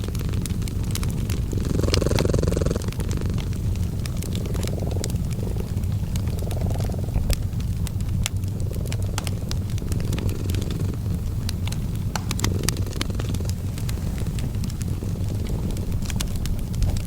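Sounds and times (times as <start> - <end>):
cat purring: 0.0 - 17.0
fireplace fire crackling: 0.0 - 17.0.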